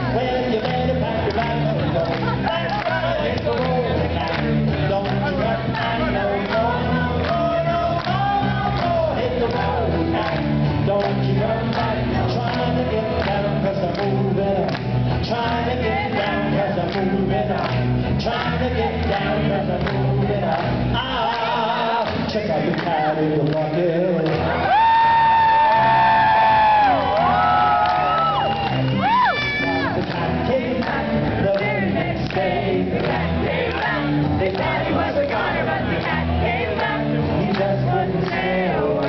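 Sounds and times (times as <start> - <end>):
man singing: 0.0 - 39.0.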